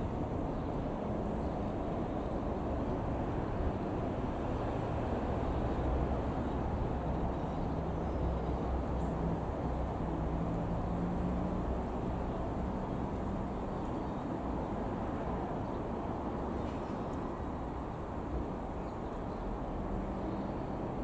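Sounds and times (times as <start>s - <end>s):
light aircraft engine drone overhead: 0.0s - 21.0s.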